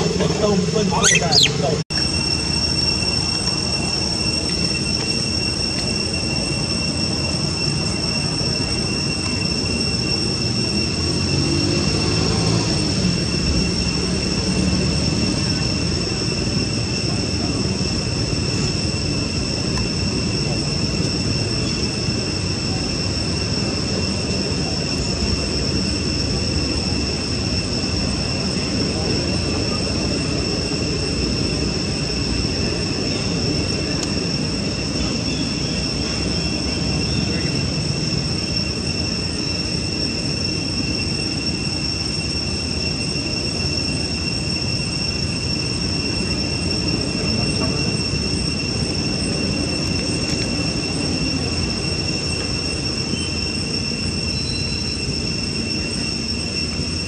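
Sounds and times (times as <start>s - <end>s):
high-pitched two-tone drone: 0.0s - 57.0s.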